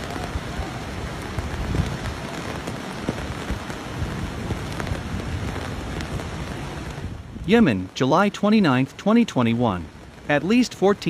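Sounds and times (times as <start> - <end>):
rushing water from heavy rain: 0.0 - 11.0.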